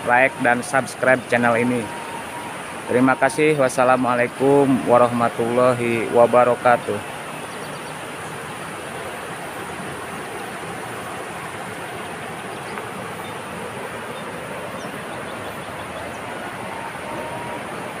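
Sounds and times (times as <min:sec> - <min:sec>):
steady outdoor rushing noise: 0:00.0 - 0:18.0.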